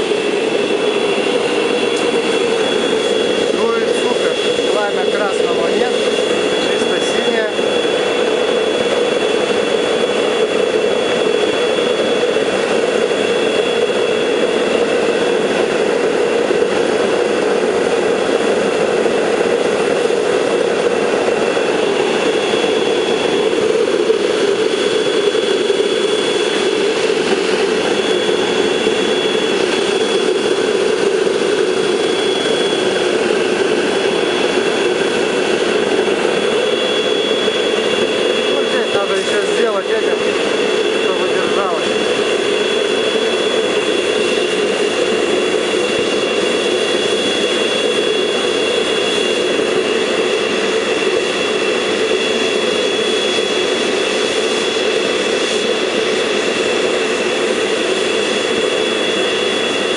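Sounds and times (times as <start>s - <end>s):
faint high whine: 0.0s - 59.9s
gas forge burner and blower rushing: 0.0s - 59.9s.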